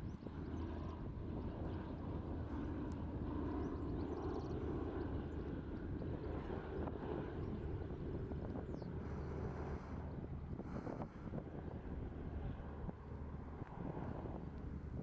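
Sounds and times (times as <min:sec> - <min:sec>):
propeller plane engines humming: 0:00.0 - 0:15.0.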